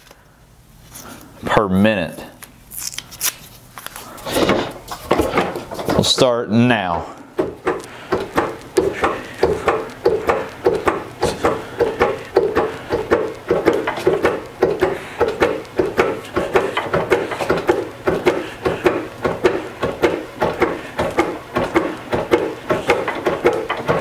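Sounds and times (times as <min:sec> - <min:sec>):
treadle lathe knocking rhythmically: 0:04.4 - 0:24.0.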